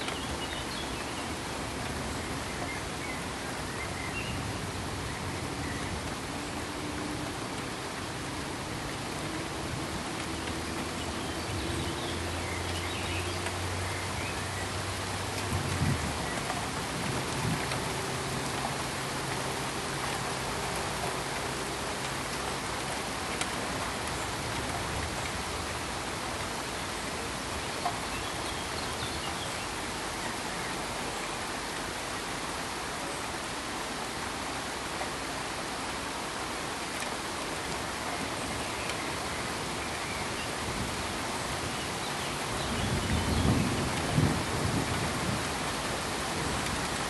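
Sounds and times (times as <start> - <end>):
steady rain-like hiss: 0.0 - 47.0.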